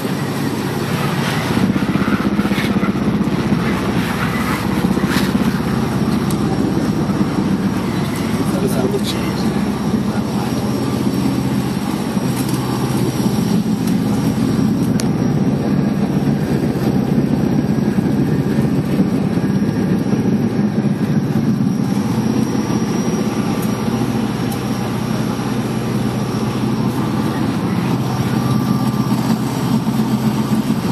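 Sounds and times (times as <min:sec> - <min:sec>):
boat engines droning: 0:00.0 - 0:30.9
constant rush: 0:00.0 - 0:30.9.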